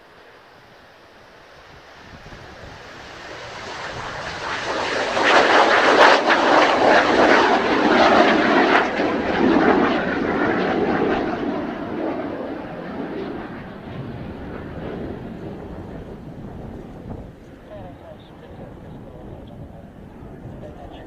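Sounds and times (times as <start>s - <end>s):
jet engines at take-off power: 0.0s - 21.0s.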